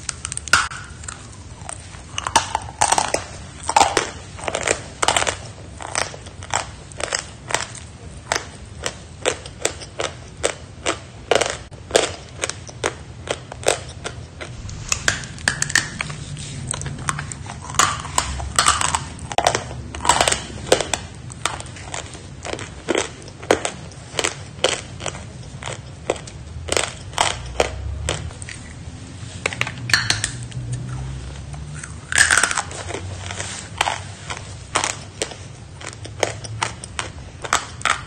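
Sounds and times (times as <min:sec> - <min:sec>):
chalk being chewed: 0:00.0 - 0:29.6, 0:30.2 - 0:38.0.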